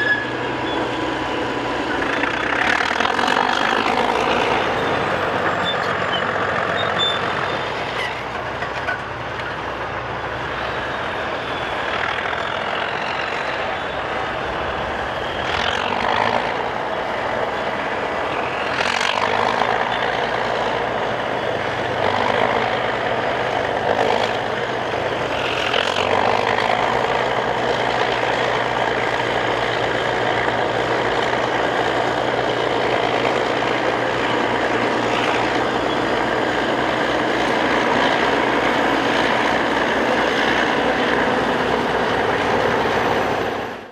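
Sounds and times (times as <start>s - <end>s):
bulldozer diesel engine droning: 0.0s - 43.9s.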